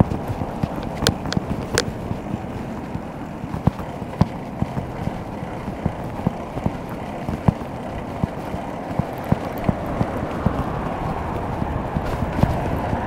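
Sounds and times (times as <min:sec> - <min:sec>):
bike tyre noise on concrete: 0:00.0 - 0:13.0
wind noise: 0:00.0 - 0:13.0.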